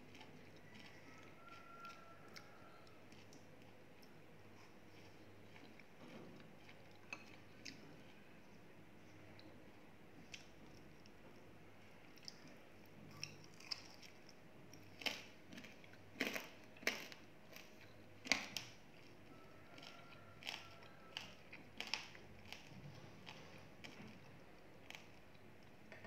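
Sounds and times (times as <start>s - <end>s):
chewing crispy food crunches: 0.0s - 8.2s, 12.1s - 25.5s.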